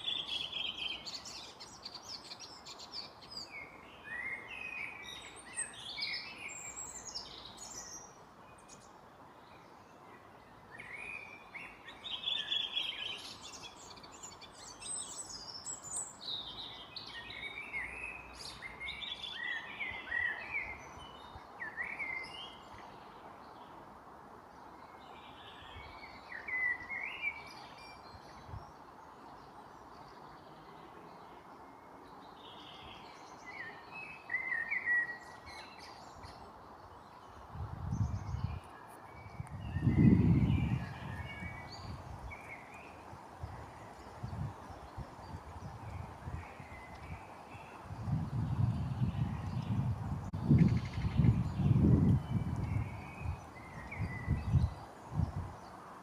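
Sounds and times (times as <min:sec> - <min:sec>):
songbirds singing: 0:00.0 - 0:56.0
steady background hiss: 0:00.0 - 0:56.0.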